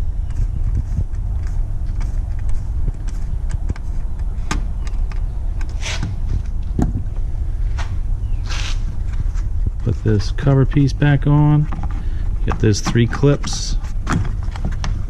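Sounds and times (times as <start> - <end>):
low rumble: 0.0 - 12.7.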